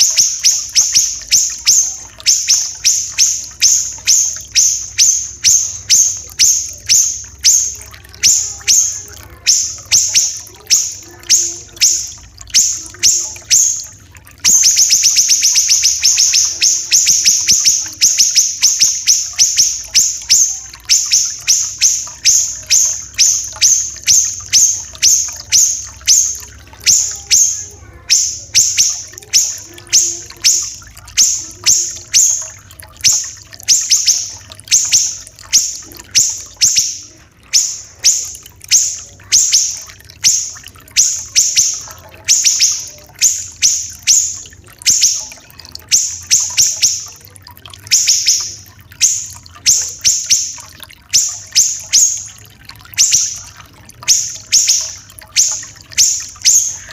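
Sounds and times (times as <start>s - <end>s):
bird song high notes and trill: 0.0s - 56.9s
faint trickling water: 0.0s - 56.9s.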